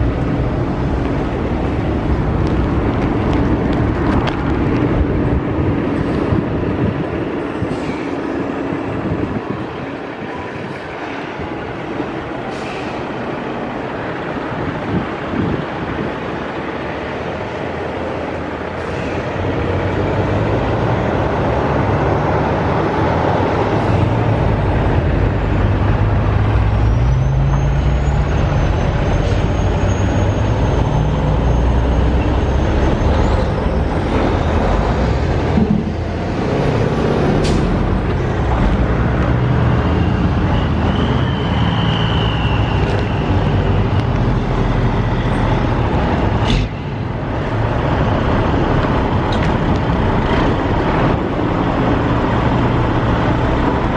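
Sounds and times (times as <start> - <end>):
heavy vehicle engine running: 0.0 - 53.9.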